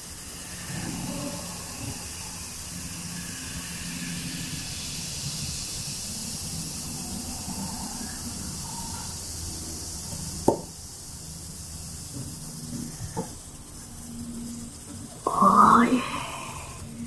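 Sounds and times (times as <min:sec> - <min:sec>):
baking soda and vinegar fizzing: 0:00.0 - 0:17.0.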